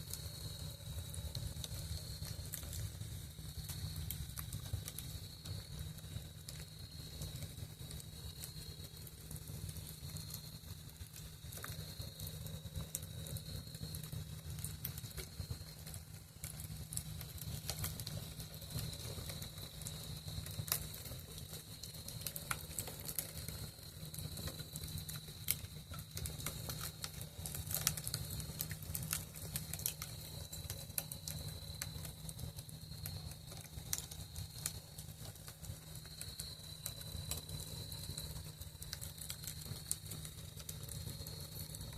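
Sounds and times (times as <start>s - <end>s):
campfire crackling and popping: 0.0s - 41.9s
constant low rumble: 0.0s - 41.9s
crickets trilling: 0.0s - 41.9s.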